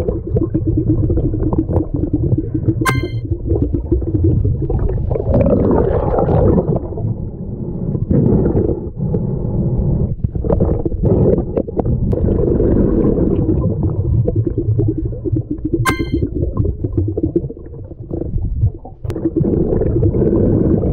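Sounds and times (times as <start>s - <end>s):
underwater rumble and bubbles: 0.0s - 20.9s.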